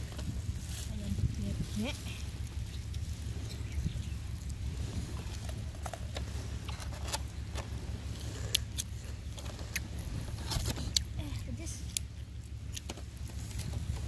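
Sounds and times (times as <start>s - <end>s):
low rumble: 0.0s - 14.0s
plastic glove crinkling: 0.0s - 14.0s.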